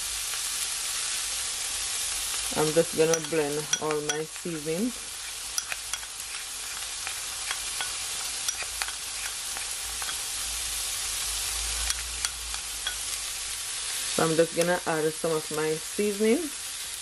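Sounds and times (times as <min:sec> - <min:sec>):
vegetables frying in oil: 0:00.0 - 0:17.0.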